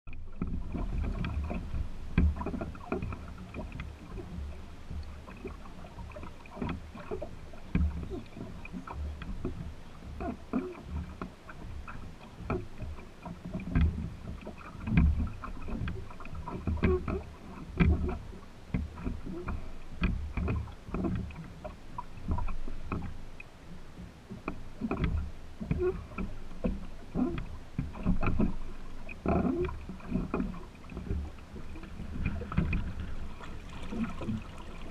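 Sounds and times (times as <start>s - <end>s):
water lapping against wooden hull: 0.1s - 34.9s.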